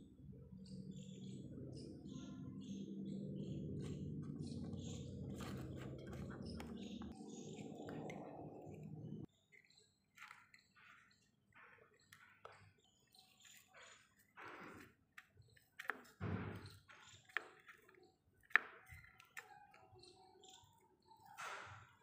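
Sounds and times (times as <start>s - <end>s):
fingers kneading dough: 3.8s - 22.0s.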